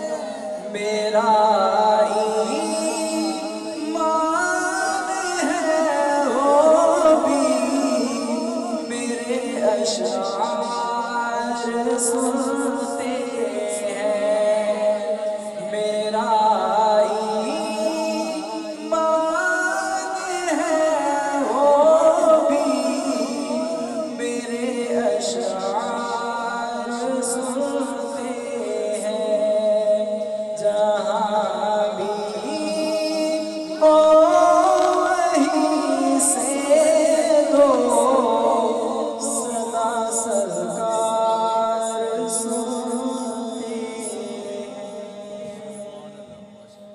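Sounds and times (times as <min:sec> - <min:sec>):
man singing into a microphone: 0:00.0 - 0:46.9.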